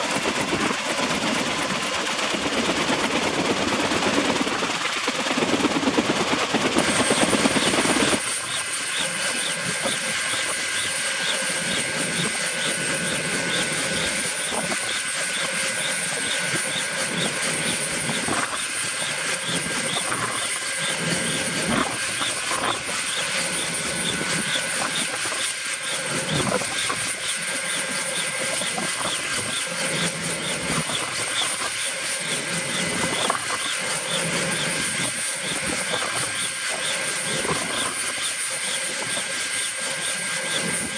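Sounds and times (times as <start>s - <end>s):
helicopter engine whine: 0.0s - 40.9s
helicopter rotors swishing: 0.0s - 40.9s.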